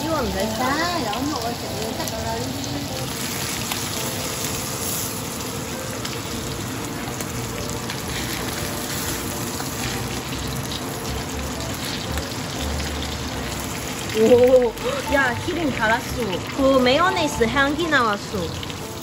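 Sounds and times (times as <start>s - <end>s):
steaks sizzling in oil: 0.0s - 19.0s.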